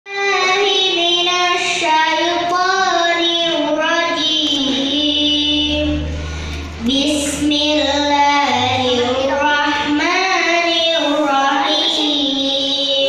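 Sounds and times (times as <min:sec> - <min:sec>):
girl reciting in melodic chant: 0:00.1 - 0:13.0.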